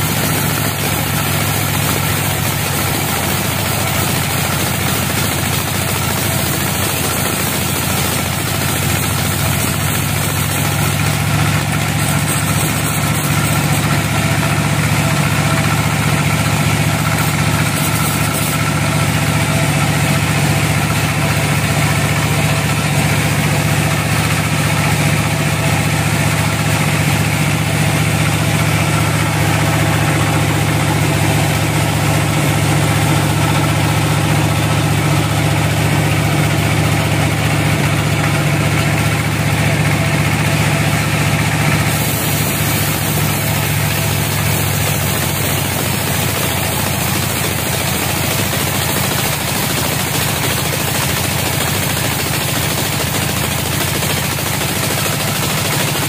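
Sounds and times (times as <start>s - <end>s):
band sawmill sawing log: 0.0s - 56.0s.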